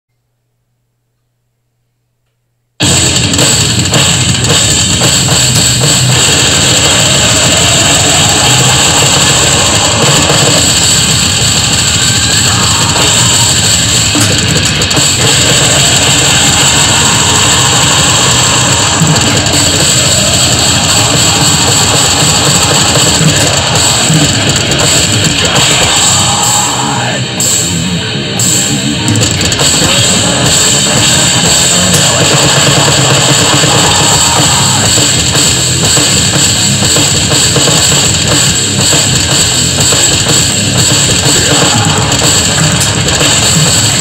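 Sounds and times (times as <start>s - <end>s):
electronic drum kit playing: 2.8s - 44.0s
heavy rock backing track: 2.8s - 44.0s.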